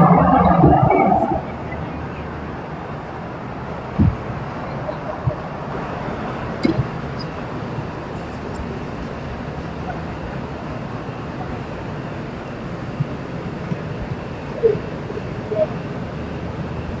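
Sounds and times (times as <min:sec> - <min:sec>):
traffic hiss: 0:00.0 - 0:17.0.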